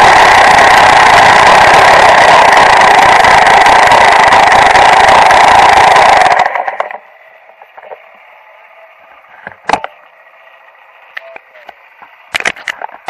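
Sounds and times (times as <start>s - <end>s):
dirt bike engine idling: 0.0s - 13.0s.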